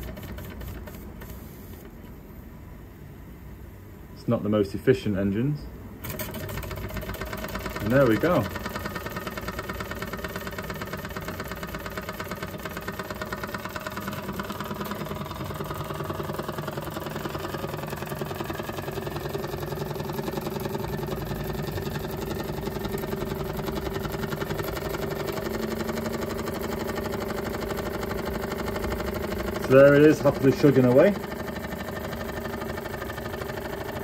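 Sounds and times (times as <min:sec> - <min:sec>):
model steam engine chuffing: 0:06.1 - 0:34.0.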